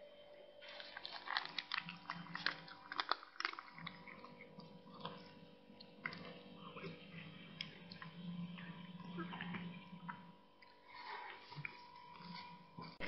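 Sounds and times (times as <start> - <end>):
cat crunching and chewing: 0.6 - 13.0.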